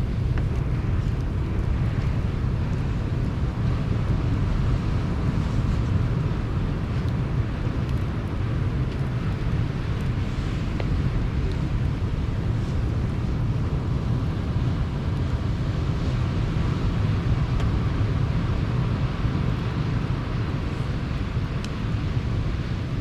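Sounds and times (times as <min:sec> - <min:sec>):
campfire crackles: 0:00.0 - 0:23.0
wind buffeting microphone: 0:00.0 - 0:23.0.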